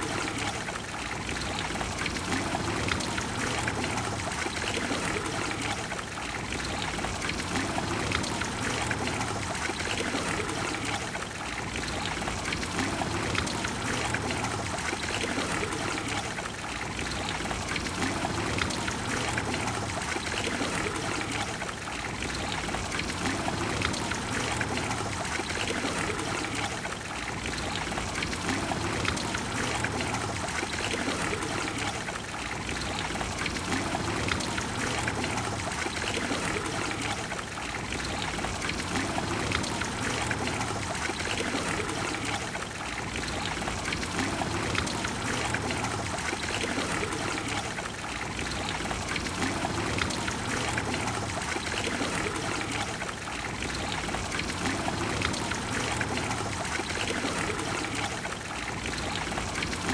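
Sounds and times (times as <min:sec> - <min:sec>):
fountain water splashing into basin: 0:00.0 - 0:59.9.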